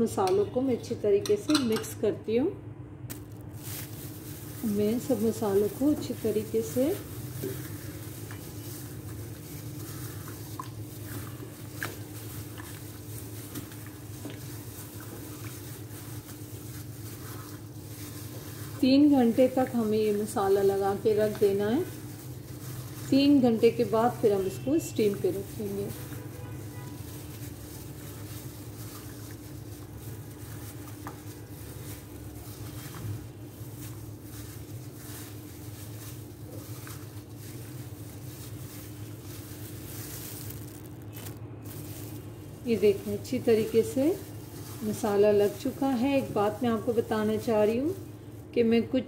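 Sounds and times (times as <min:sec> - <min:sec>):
hand squelching marinade into chicken: 0:03.4 - 0:46.9.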